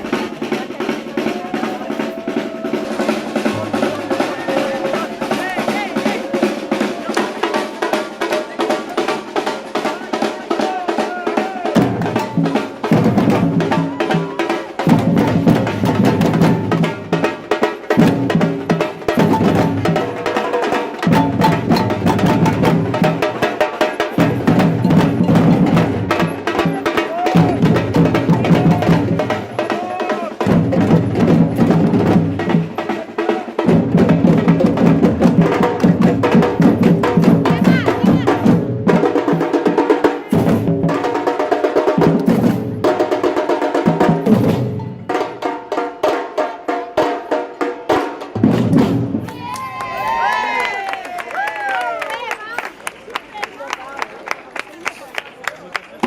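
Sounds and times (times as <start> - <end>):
samba drumming: 0.0 - 53.7.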